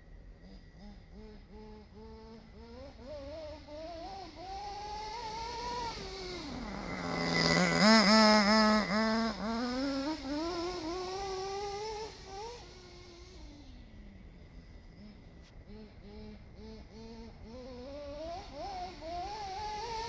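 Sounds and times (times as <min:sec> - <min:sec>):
radio-controlled truck motor: 0:00.5 - 0:20.0.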